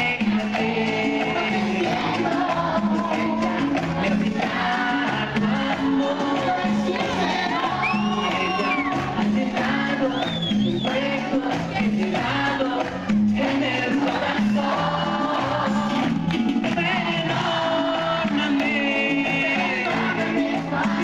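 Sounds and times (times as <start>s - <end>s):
live cumbia band music: 0.0s - 21.0s.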